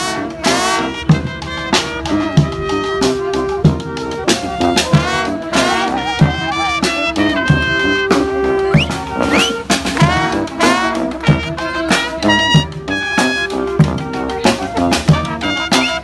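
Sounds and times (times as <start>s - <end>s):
brass band playing: 0.0s - 16.0s
steady drum beat: 0.0s - 16.0s.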